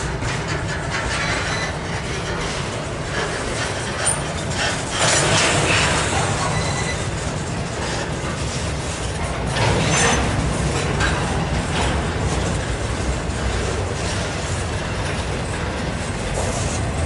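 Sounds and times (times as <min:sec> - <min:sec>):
empty freight cars rattling: 0:00.0 - 0:17.0
train wheels rumbling on rail: 0:00.0 - 0:17.0.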